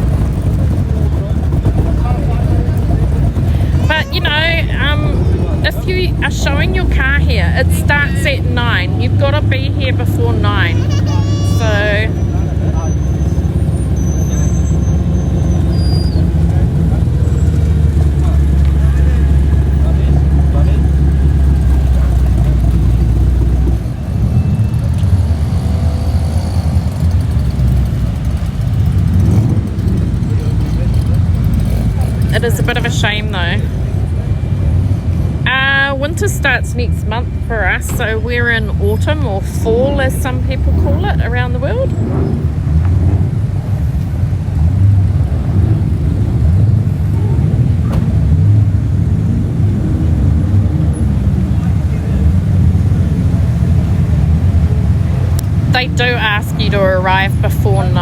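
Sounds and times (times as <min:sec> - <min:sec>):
car engines rumbling: 0:00.0 - 0:58.0.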